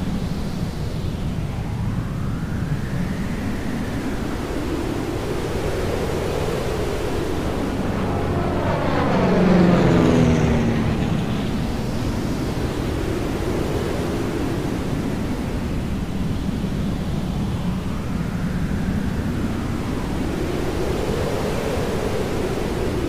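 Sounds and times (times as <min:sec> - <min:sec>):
aircraft passing close by: 0:00.0 - 0:23.0.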